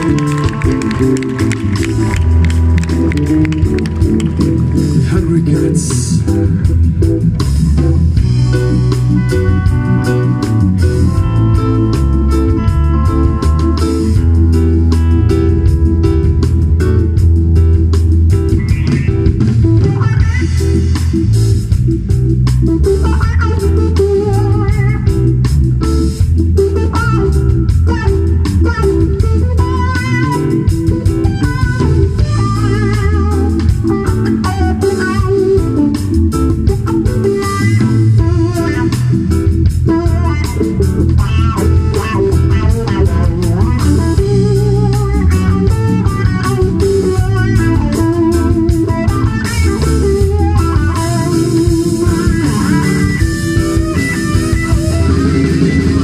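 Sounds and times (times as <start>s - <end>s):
electric guitar lead: 0.0s - 56.0s
live blues band playing: 0.0s - 56.0s.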